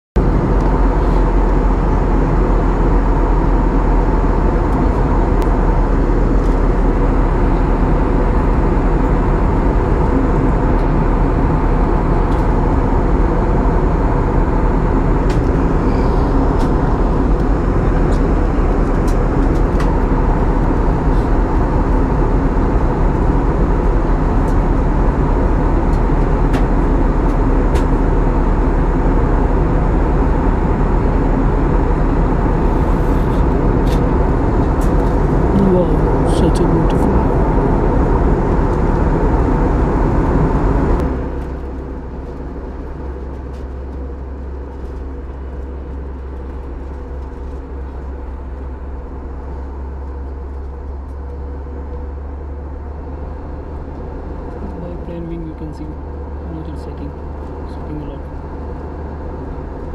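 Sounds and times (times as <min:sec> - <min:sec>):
jet engine and airflow rush: 0:00.2 - 0:59.9.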